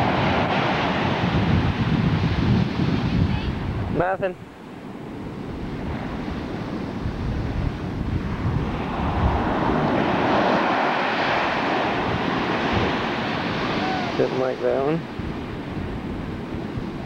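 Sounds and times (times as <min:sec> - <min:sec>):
ocean waves breaking on beach: 0:00.0 - 0:17.0
wind rumble on microphone: 0:00.0 - 0:17.0.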